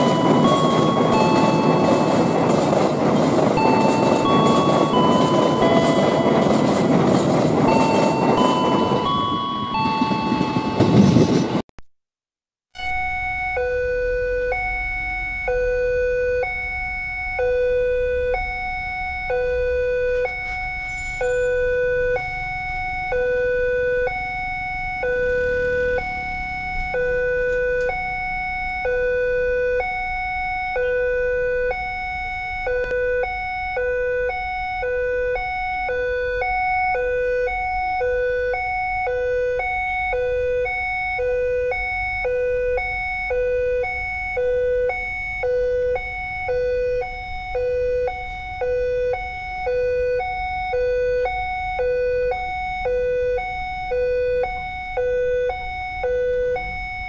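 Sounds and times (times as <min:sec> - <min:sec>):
level-crossing two-tone alarm: 0:00.0 - 0:11.6, 0:12.8 - 0:57.0.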